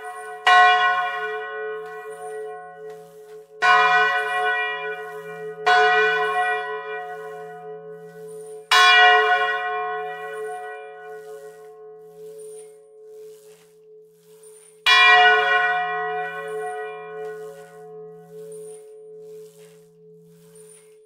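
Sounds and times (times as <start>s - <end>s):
church bell ringing: 0.0s - 13.3s, 14.8s - 20.6s.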